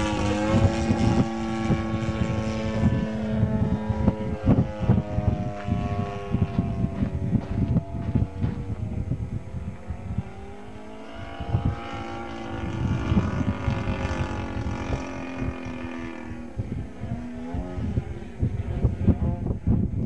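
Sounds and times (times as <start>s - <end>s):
model plane engine and propeller: 0.0s - 20.0s
wind rumble on microphone: 0.0s - 20.0s.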